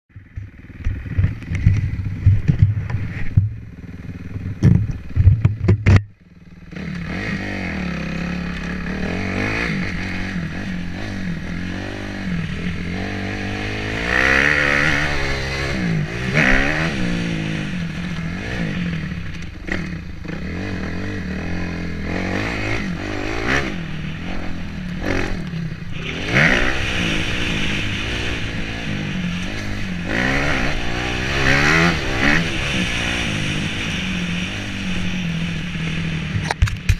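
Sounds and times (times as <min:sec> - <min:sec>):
motocross bike engine revving: 0:00.2 - 0:36.9.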